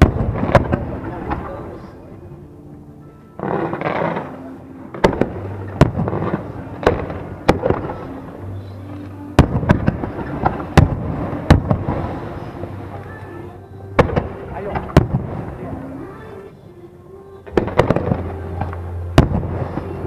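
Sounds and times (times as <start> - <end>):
fireworks bursting with sharp bangs: 0.0 - 1.9, 3.4 - 16.6, 17.4 - 20.0
fireworks crackling rush: 0.0 - 16.8, 17.4 - 20.0.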